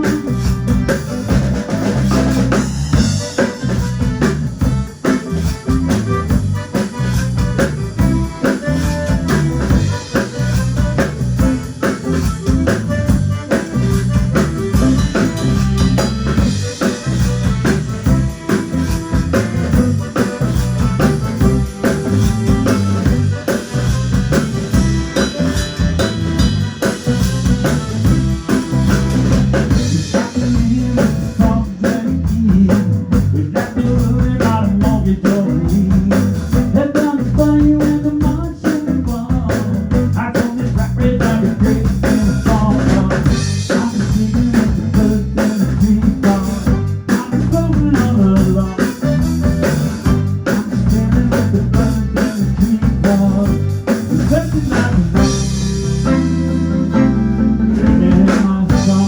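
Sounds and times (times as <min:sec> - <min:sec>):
band playing instrumental: 0:00.0 - 0:59.0
drum kit: 0:00.0 - 0:59.0
electric guitar: 0:00.0 - 0:59.0.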